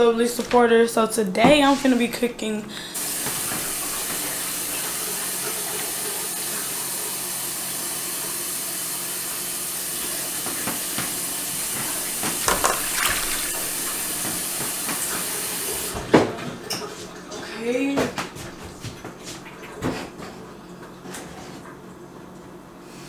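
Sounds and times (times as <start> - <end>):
water running from a tap: 1.6 - 21.0.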